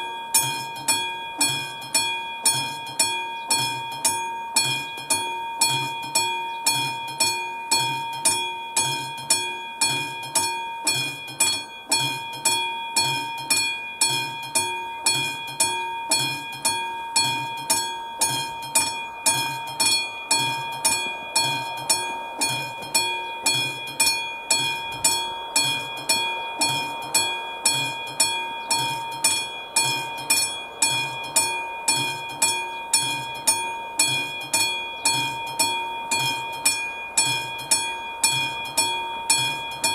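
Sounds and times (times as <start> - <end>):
level crossing bell ringing: 0.0 - 39.9.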